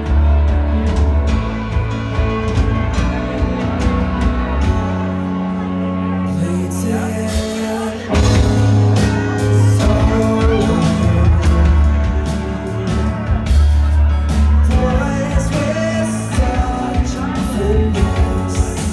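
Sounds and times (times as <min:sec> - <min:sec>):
live band playing: 0:00.0 - 0:18.9
sustained bass notes: 0:00.0 - 0:18.9.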